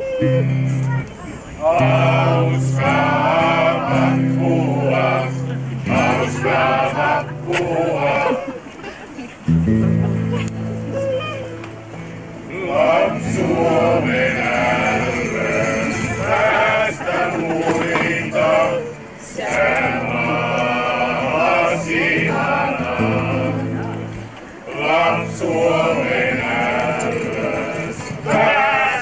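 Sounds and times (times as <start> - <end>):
acoustic guitar: 0.0 - 29.0
group of people singing: 1.6 - 8.6, 12.5 - 29.0.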